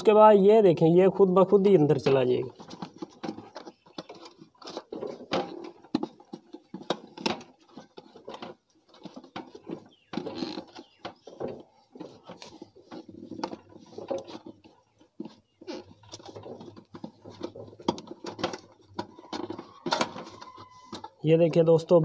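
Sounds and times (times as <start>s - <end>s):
rubbing and scraping of air filter: 1.1s - 22.0s.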